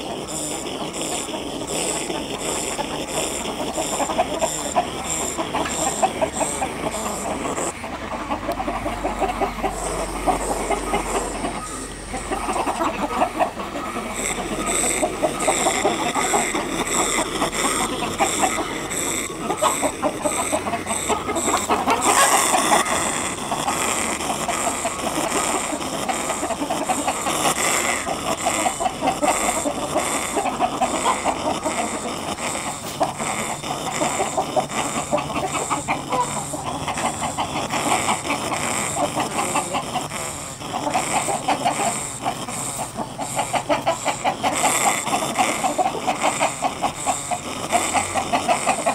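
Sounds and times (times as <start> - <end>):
hens and roosters clucking: 0.0 - 48.9.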